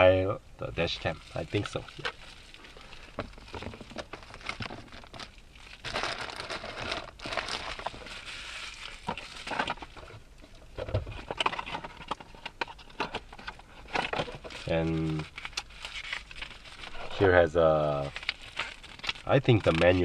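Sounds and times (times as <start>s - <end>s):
packaging crinkling: 1.0s - 10.1s, 11.2s - 20.0s.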